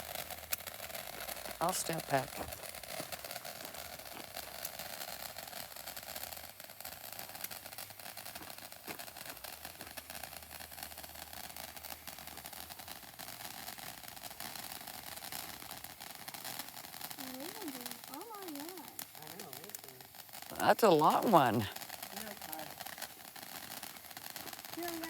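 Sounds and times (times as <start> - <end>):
firework fountain hissing: 0.0 - 25.0.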